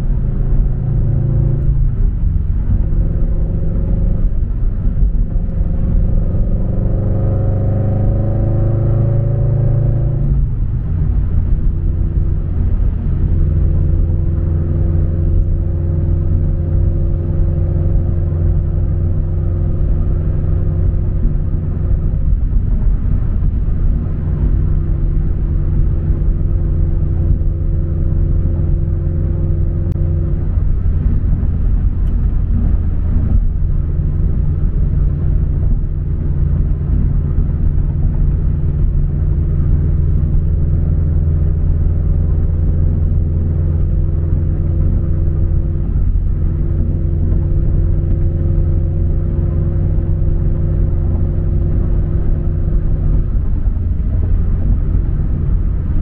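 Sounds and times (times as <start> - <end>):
car engine rumble inside cabin: 0.0 - 56.0.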